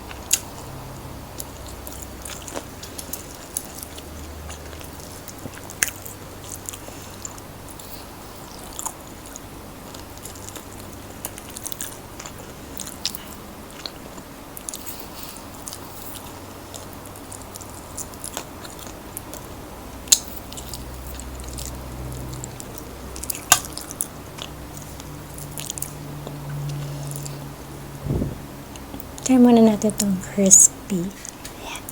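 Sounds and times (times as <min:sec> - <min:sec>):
chewing and crunching fried chicken: 0:00.0 - 0:27.9.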